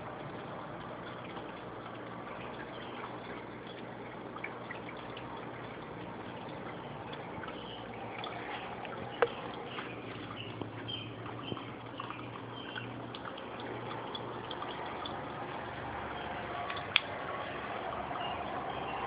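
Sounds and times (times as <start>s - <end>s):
aquarium water trickling: 0.0s - 19.0s
low steady hum: 0.0s - 19.0s.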